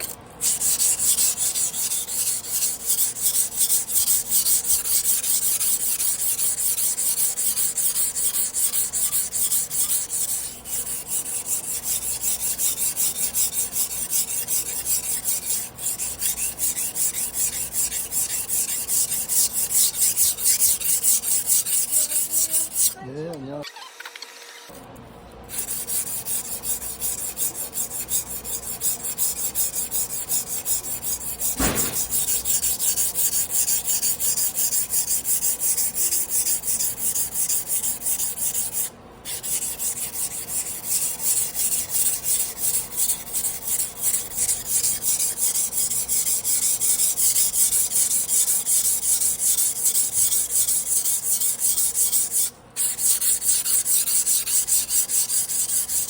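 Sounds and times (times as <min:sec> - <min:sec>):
knife scraping on whetstone: 0:00.0 - 0:23.0, 0:24.7 - 0:56.0.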